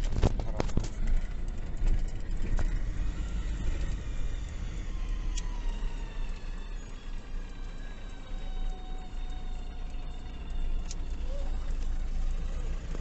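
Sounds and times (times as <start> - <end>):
diesel truck engine rumble: 0.0 - 13.0.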